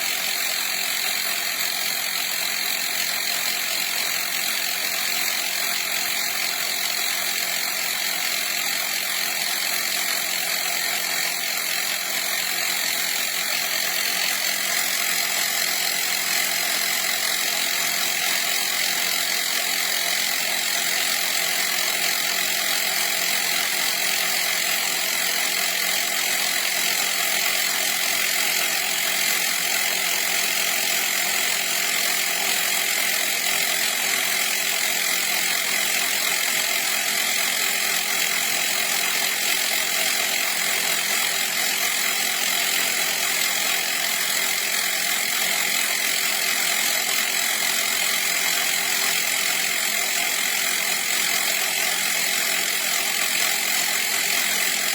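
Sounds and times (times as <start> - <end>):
mini air compressor running: 0.0 - 54.9.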